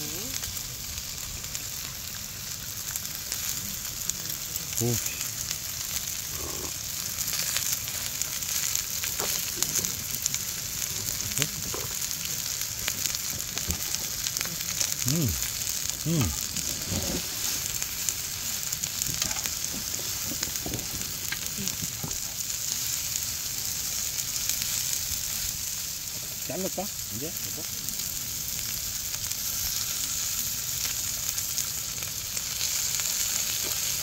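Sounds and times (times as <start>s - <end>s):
meat sizzling on a griddle: 0.0s - 34.0s.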